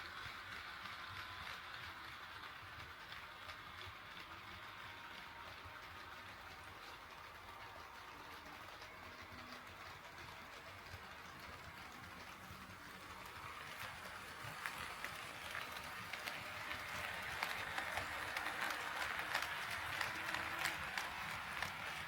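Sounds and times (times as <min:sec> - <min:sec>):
model train wheels clicking: 0:00.0 - 0:22.0.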